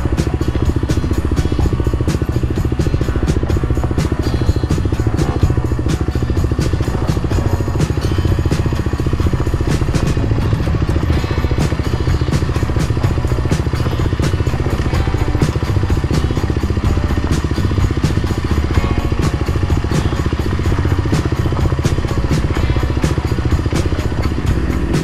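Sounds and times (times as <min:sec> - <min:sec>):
bike knocking and clattering: 0:00.0 - 0:25.0
motorcycle engine running: 0:00.0 - 0:25.0.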